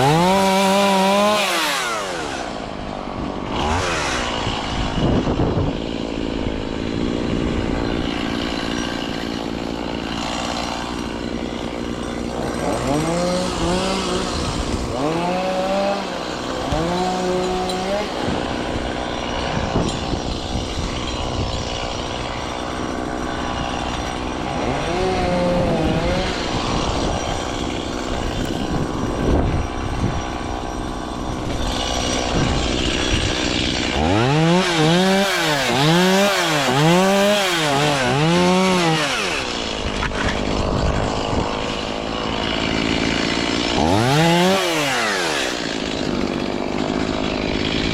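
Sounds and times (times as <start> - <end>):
chainsaw engine revving: 0.0 - 47.9.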